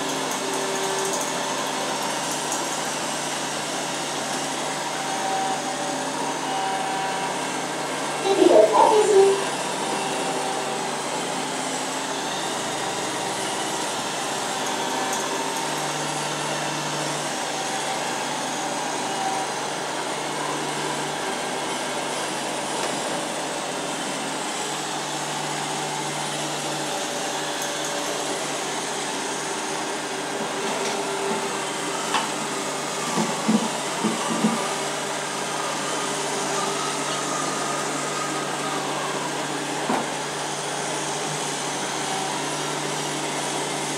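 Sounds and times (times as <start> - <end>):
robot vacuum cleaner running: 0.0 - 43.9.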